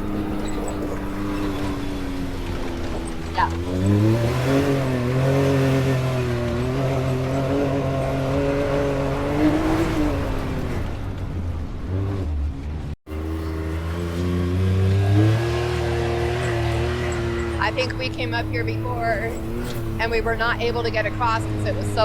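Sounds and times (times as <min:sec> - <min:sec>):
off-road vehicle engine: 0:00.0 - 0:22.0.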